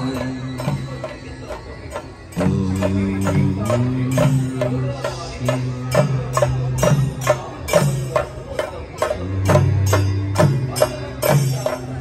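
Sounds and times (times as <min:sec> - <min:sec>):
jingling percussion: 0:00.0 - 0:12.0
procession drums: 0:00.0 - 0:12.0.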